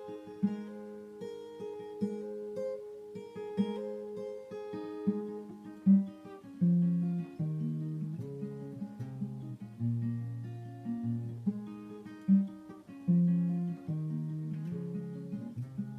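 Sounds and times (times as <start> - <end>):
fingerpicked acoustic guitar: 0.0 - 15.9.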